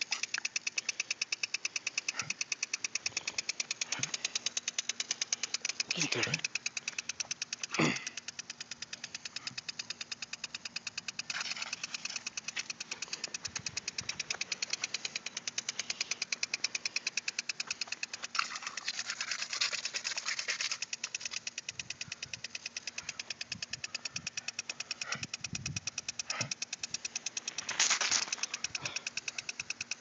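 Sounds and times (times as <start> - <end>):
impulse sprinkler ticking: 0.0 - 30.0.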